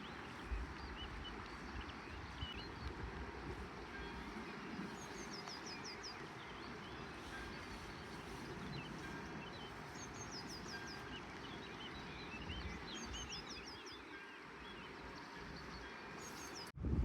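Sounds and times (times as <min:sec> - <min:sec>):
songbirds singing: 0:00.0 - 0:16.8.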